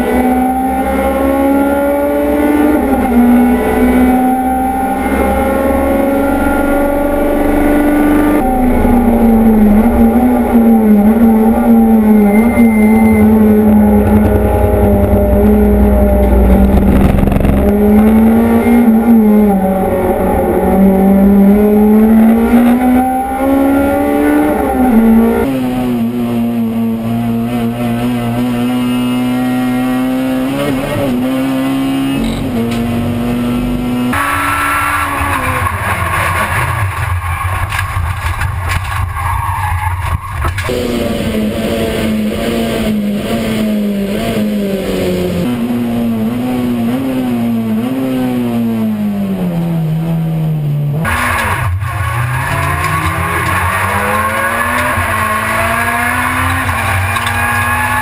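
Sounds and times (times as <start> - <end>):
racing car engine revving: 0.0 - 39.4, 40.3 - 58.0.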